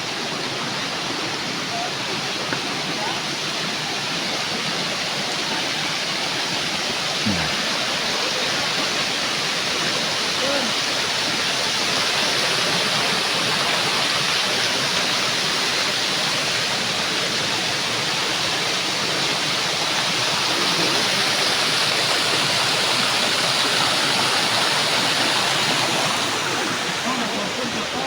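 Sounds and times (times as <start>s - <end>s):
water rushing over a channel: 0.0s - 28.0s.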